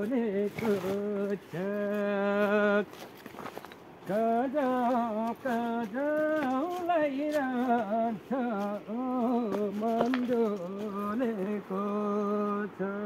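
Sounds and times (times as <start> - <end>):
man singing unaccompanied: 0.0 - 3.0, 4.0 - 13.0.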